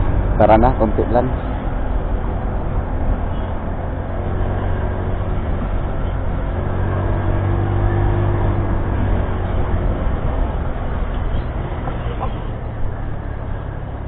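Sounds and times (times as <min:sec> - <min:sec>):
motorcycle engine cruising: 0:00.0 - 0:14.0
road noise: 0:00.0 - 0:14.0.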